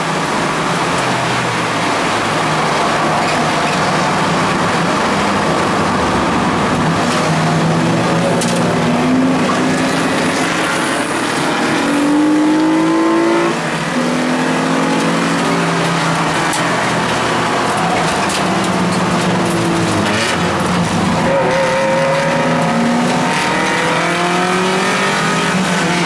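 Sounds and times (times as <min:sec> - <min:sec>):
race car engine at full throttle: 0:00.0 - 0:26.0
road and wind noise: 0:00.0 - 0:26.0.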